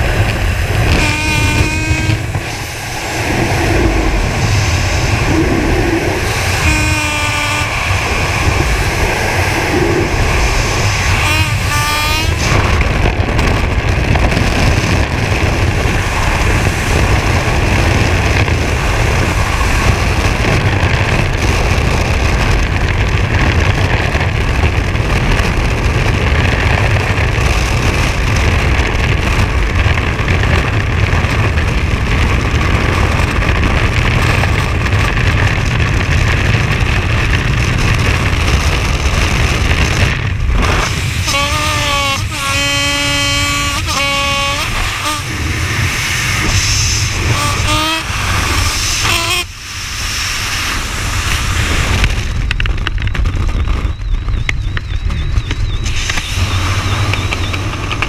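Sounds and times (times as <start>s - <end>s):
freefall wind buffeting microphone: 0.0s - 58.0s.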